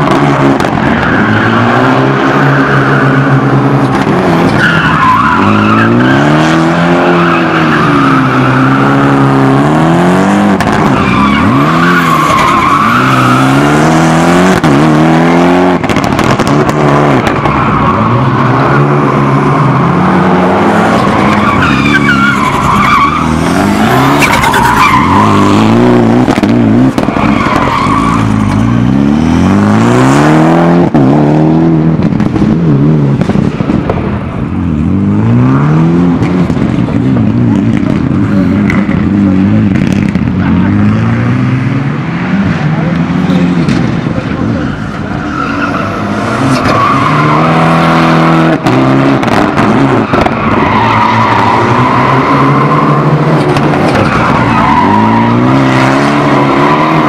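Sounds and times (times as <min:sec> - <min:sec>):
tyres squealing and skidding: 0:00.0 - 0:15.1, 0:16.6 - 0:30.7, 0:37.1 - 0:57.0
rally car engine revving: 0:00.0 - 0:57.0.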